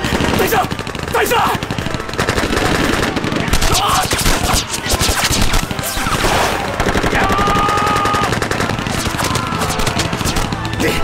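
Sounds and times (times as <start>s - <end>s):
gunshots: 0.0s - 11.0s
machine-gun fire: 0.0s - 11.0s.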